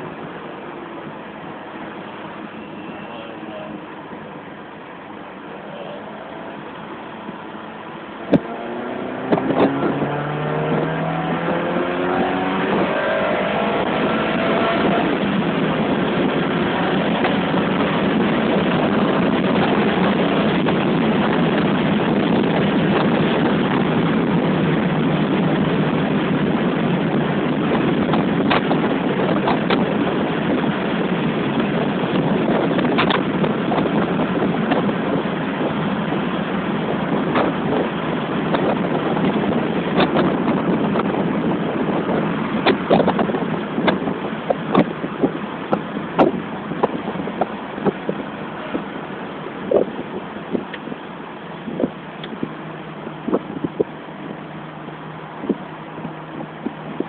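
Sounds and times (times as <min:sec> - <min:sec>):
wind and road noise: 0:00.0 - 0:57.0
car engine revving: 0:05.6 - 0:57.0.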